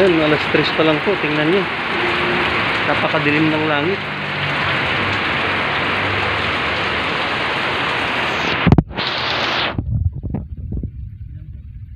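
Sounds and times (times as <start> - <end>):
heavy rain on concrete: 0.0 - 10.4.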